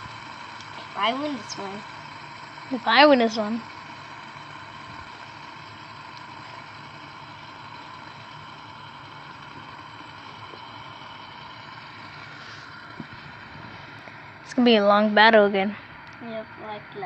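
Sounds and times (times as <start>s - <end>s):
spinning tops whirring: 0.0s - 17.0s.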